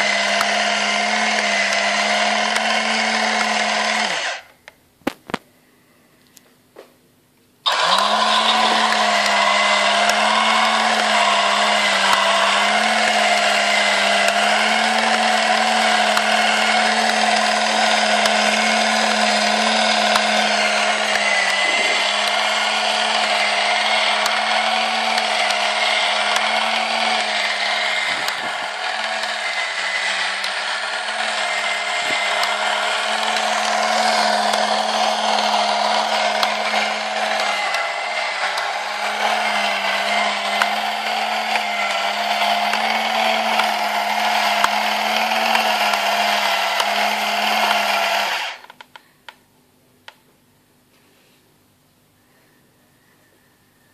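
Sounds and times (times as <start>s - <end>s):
model engine mechanical whine: 0.0s - 4.5s, 7.7s - 48.8s.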